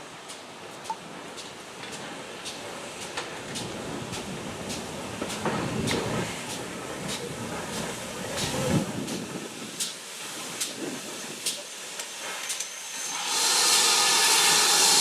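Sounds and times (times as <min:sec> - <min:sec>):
steam locomotive exhaust beats: 0:00.0 - 0:15.0
steam hissing: 0:02.0 - 0:15.0.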